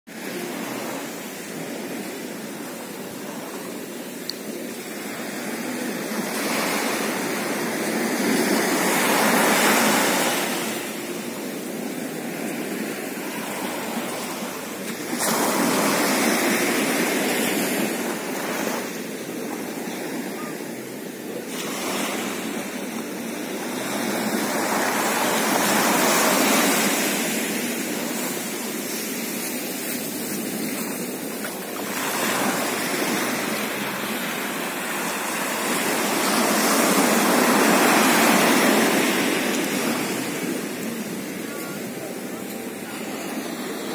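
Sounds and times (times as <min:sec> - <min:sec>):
waves breaking on shore: 0:00.1 - 0:43.9.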